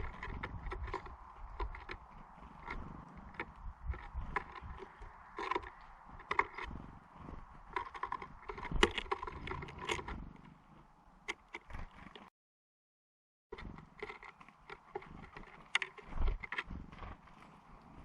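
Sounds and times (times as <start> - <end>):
birds pecking at wooden feeder: 0.0 - 12.3, 13.5 - 18.0.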